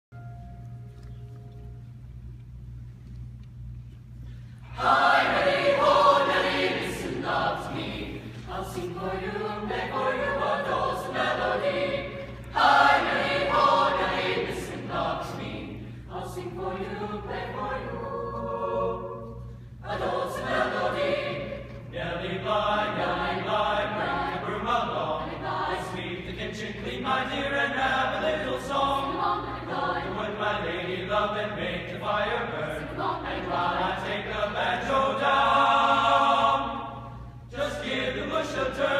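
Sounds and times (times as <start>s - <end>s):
mixed-voice choir singing: 4.6s - 38.9s.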